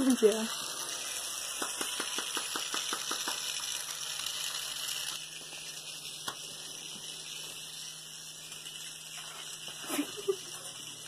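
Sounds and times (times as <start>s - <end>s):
faint motor hum: 0.0s - 11.0s
toy mechanism clicking rapidly: 0.0s - 11.0s.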